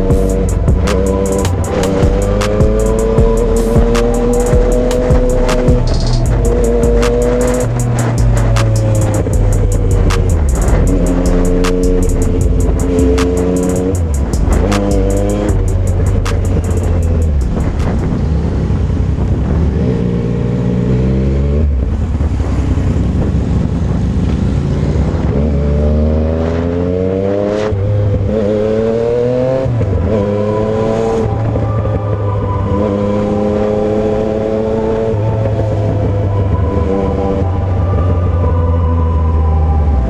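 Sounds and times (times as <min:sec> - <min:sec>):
wind rumble on microphone: 0:00.0 - 0:32.8
motorcycle engine accelerating: 0:00.0 - 0:39.7.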